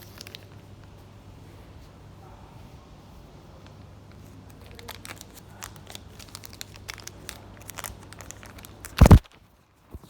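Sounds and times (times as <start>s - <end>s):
crackling handling noises: 0.0s - 2.2s, 2.8s - 10.0s.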